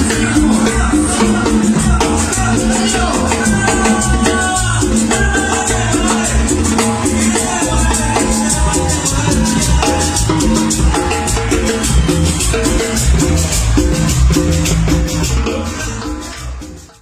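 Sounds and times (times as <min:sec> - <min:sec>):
latin dance music: 0:00.0 - 0:17.0
maracas shaking: 0:00.0 - 0:17.0.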